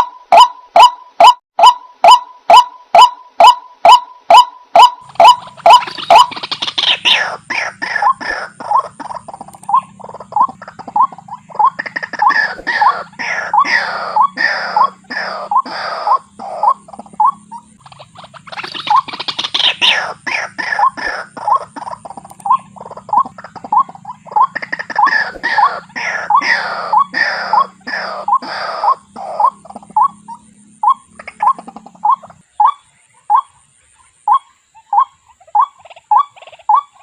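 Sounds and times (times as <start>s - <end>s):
waterhens croaking: 0.0s - 37.0s.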